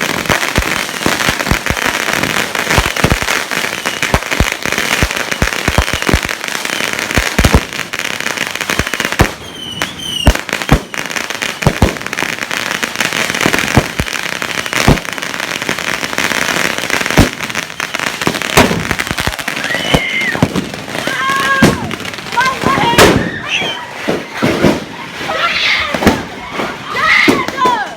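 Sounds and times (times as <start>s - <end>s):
sharp firework pops: 0.0s - 12.3s, 12.9s - 15.2s, 16.5s - 17.5s, 18.2s - 25.0s, 25.9s - 26.3s
firecrackers crackling: 0.0s - 27.9s.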